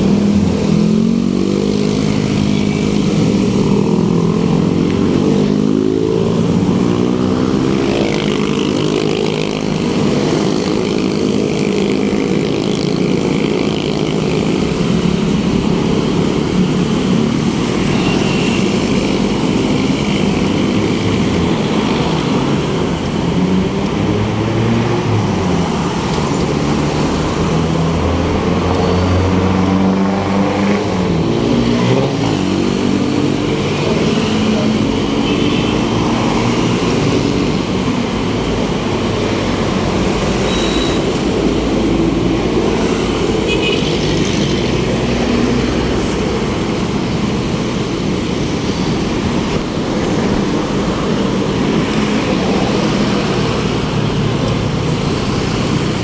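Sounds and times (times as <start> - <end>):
motor vehicle engines running: 0.0 - 56.0
road rumble: 0.0 - 56.0.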